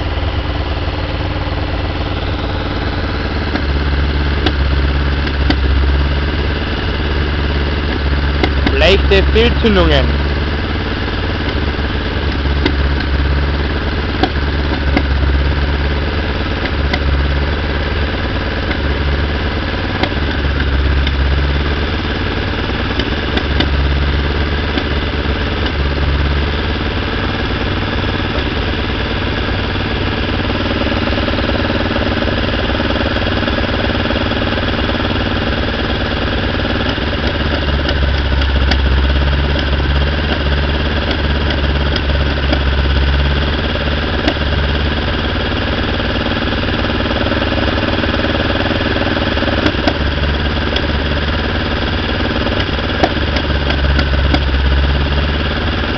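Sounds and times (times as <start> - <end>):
car engine idling unevenly: 0.0 - 55.9.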